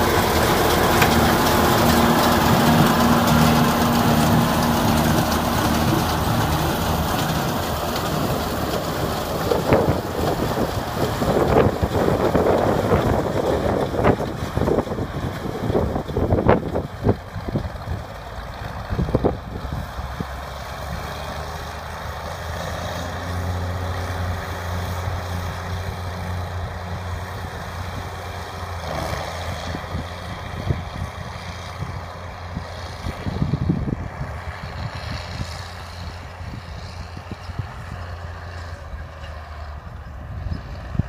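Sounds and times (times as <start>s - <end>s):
tractor engine humming: 0.0s - 41.0s.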